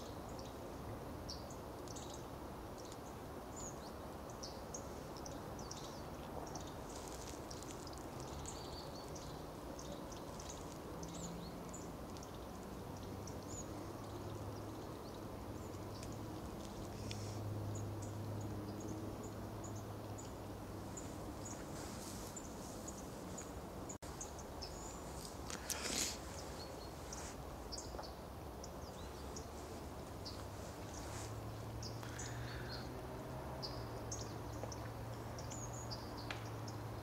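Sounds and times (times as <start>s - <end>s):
songbirds calling: 0.0s - 37.0s.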